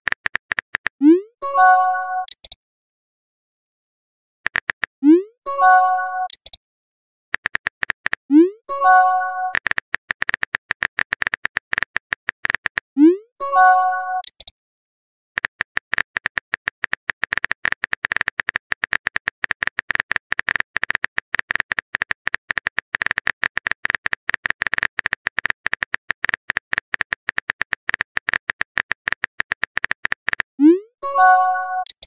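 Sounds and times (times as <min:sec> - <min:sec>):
keyboard typing clicks: 0:00.1 - 0:02.6, 0:04.5 - 0:06.6, 0:07.4 - 0:14.5, 0:15.4 - 0:32.0.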